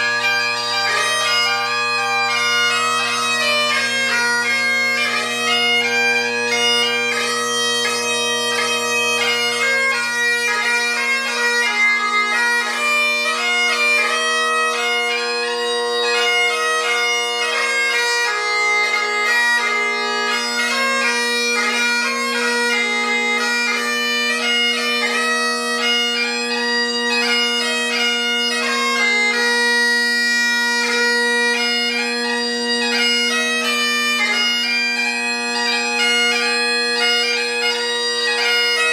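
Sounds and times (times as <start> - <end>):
bagpipe chanter melody: 0.0 - 38.9
bagpipe drones humming: 0.0 - 38.9.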